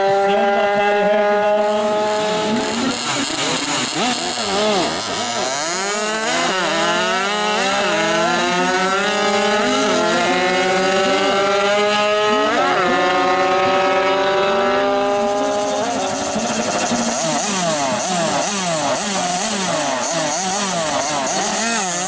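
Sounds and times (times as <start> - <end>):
two-stroke mopeds revving: 0.0 - 22.0.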